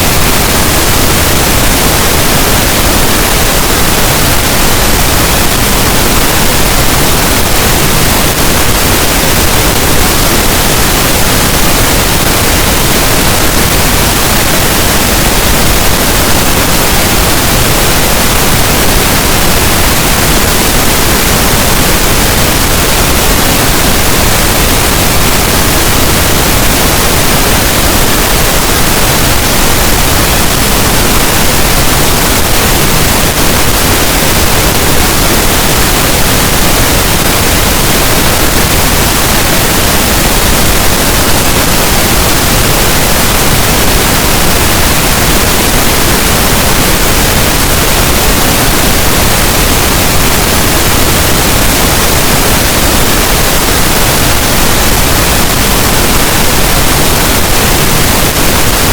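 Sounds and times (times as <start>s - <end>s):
pink noise hiss: 0.0s - 58.9s.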